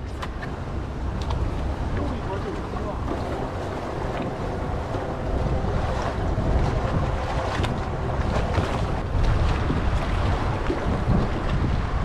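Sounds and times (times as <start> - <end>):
sea washing: 0.0 - 12.0
wind rumbling on microphone: 0.0 - 12.0.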